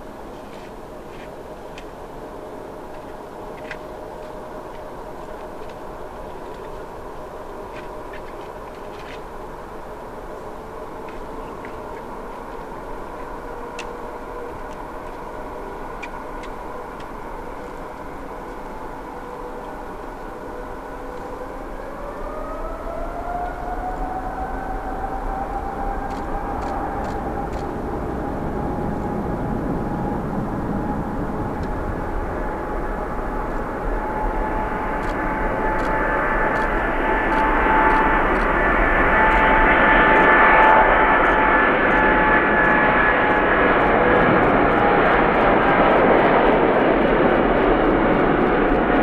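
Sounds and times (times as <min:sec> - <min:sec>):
jet engines spooling up: 0:00.1 - 0:49.0.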